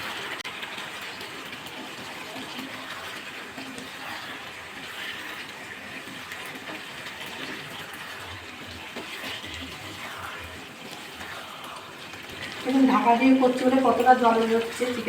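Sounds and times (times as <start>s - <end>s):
curry sizzling and bubbling in pan: 0.0s - 15.0s.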